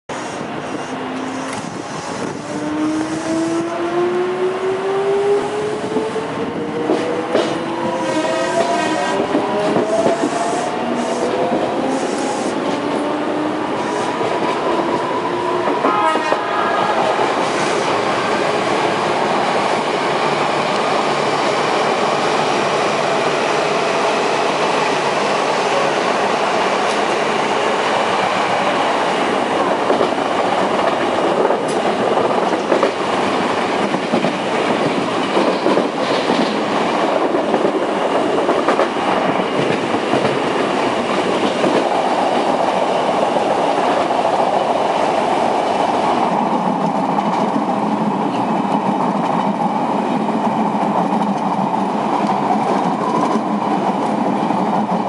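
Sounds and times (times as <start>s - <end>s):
train wheels running on rails: 0.1s - 55.0s
rail clicks: 5.3s - 55.0s.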